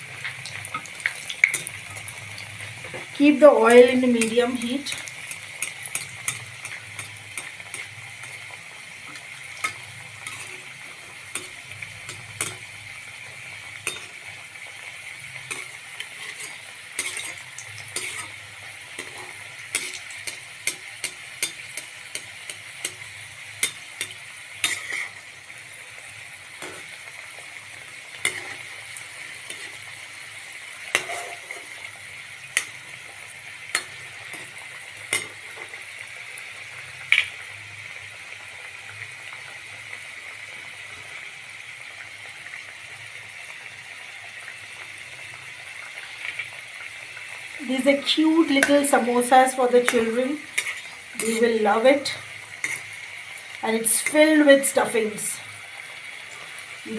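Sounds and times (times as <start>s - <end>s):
deep-frying sizzle with pops: 0.0s - 56.9s.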